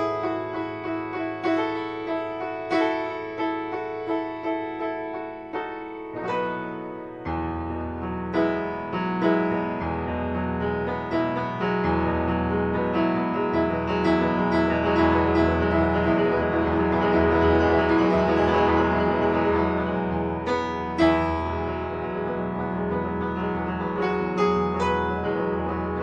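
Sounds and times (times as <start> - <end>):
low sustained piano bass notes: 0.0 - 26.0
piano melody: 0.0 - 26.0.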